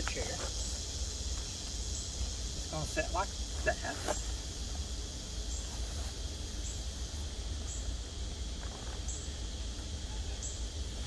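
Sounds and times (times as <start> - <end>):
insect chirping: 0.0 - 11.0
steady high hum: 0.0 - 11.0.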